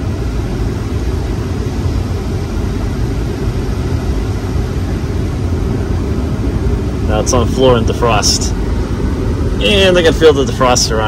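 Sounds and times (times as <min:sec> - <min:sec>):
air blower rushing: 0:00.0 - 0:11.0
car engine idling: 0:00.0 - 0:11.0.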